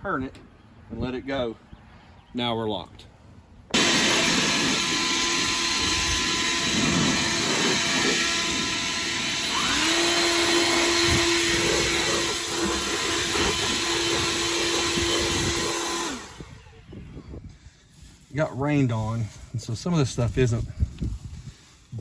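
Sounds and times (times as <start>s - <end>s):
blower air rushing: 3.7s - 22.0s
blower hum: 3.7s - 22.0s.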